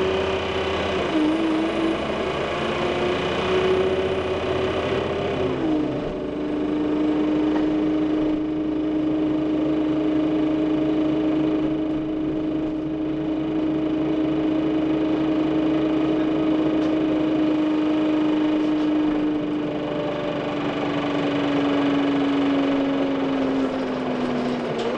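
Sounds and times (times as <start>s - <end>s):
bus engine and road rumble: 0.0s - 24.9s.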